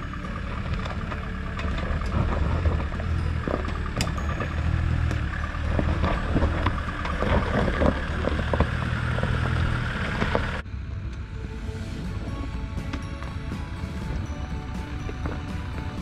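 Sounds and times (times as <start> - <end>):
rocks crunching under tyres: 0.0 - 10.6, 12.8 - 16.0
vehicle engine running at low revs: 0.0 - 16.0.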